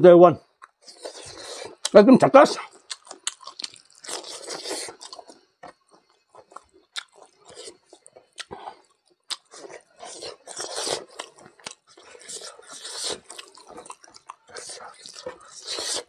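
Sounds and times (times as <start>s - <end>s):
wet chewing with light crunches: 0.5s - 16.0s.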